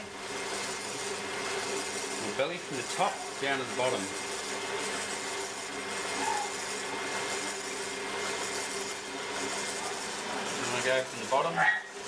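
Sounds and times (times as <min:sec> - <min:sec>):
potter's wheel humming: 0:00.0 - 0:12.0.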